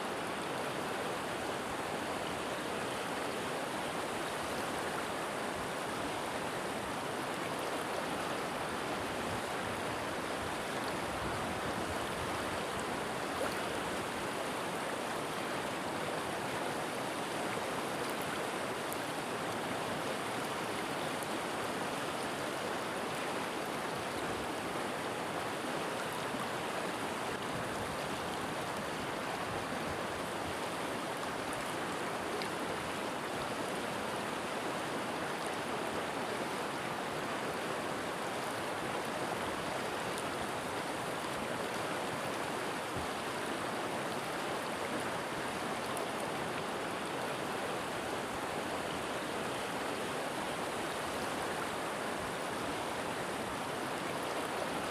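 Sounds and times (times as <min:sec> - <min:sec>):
water flowing over rocks: 0:00.0 - 0:54.9.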